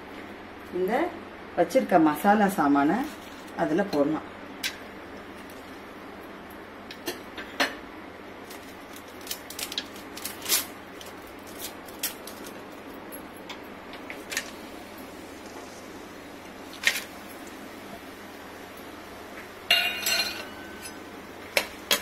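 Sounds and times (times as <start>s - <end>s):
spices crackling in hot oil: 2.6s - 7.4s, 8.3s - 22.0s.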